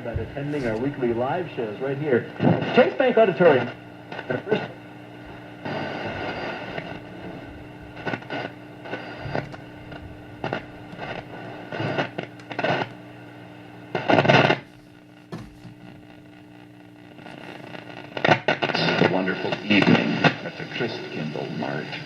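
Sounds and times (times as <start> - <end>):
radio hum: 0.0 - 22.0
radio static crackles: 0.0 - 22.0
snatches of broadcast sound: 0.0 - 22.0.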